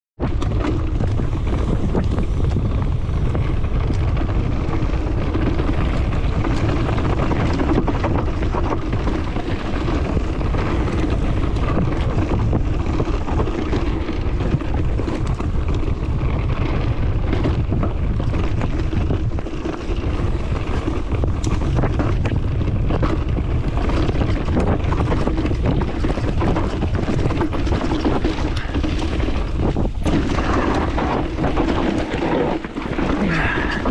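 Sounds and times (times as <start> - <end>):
vehicle rumbling: 0.2 - 33.9
wind buffeting microphone: 0.2 - 33.9.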